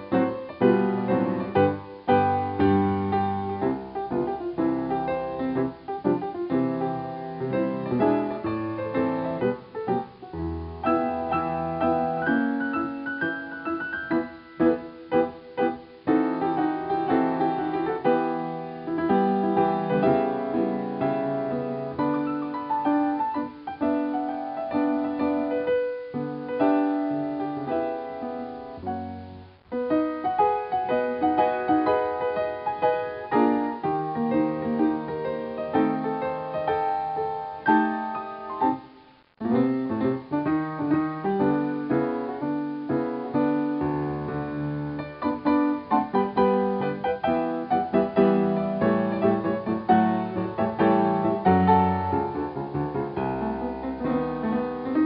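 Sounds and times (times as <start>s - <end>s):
solo piano playing: 0.0s - 55.0s.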